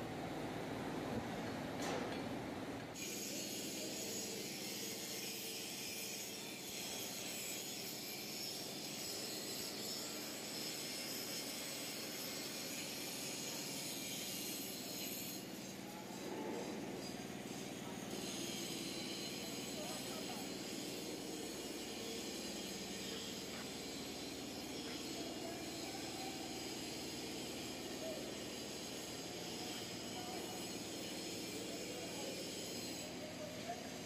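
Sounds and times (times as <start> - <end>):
angle grinder grinding steel: 3.0 - 15.7, 17.0 - 33.2.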